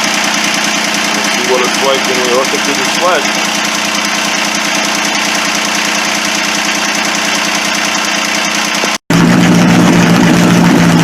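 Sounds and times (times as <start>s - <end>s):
diesel engine running: 0.0s - 11.0s
loud engine low hum: 0.0s - 11.0s.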